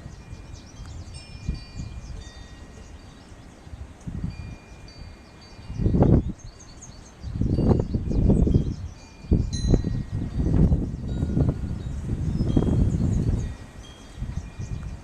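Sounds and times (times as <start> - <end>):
wind chimes ringing: 0.0 - 15.0
wind rumble on microphone: 0.0 - 15.0.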